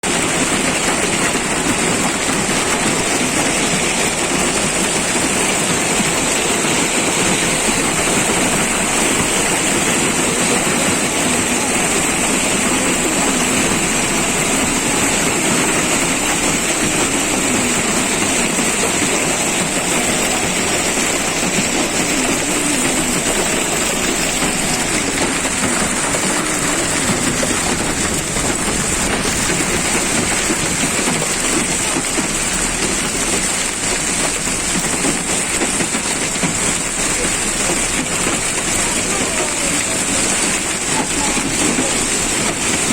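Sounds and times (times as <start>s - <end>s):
hail and rain falling: 0.0s - 42.9s.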